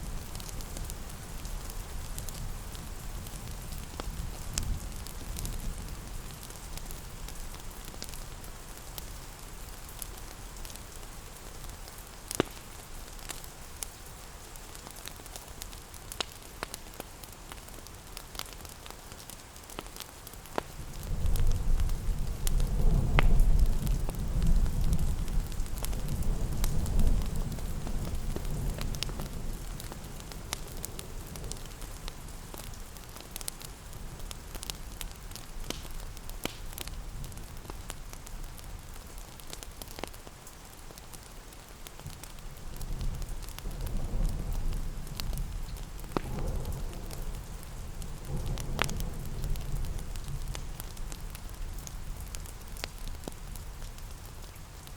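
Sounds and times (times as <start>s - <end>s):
rain hiss: 0.0s - 54.9s
wood fire crackling: 0.0s - 54.9s.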